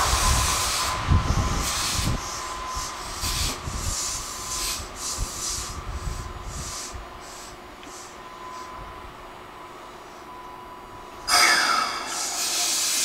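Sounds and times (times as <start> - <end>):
rhythmic train rushing hiss: 0.0 - 10.2, 11.1 - 13.0
low train rumble: 0.0 - 13.0.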